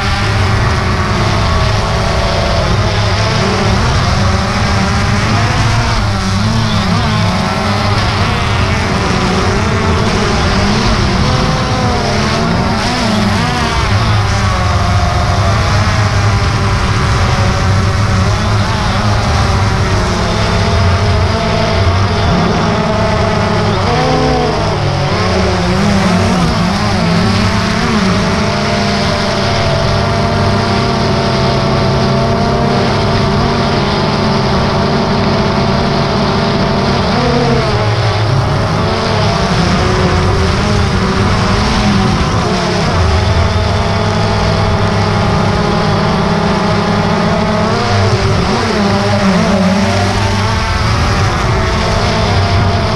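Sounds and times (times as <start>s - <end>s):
drone propellers buzzing: 0.0s - 52.9s.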